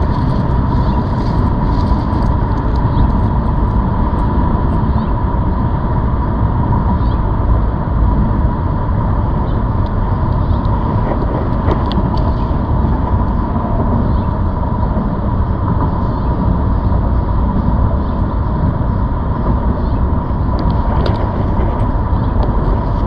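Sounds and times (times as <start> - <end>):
electric bike rumble: 0.0 - 23.0
wind noise: 0.0 - 23.0.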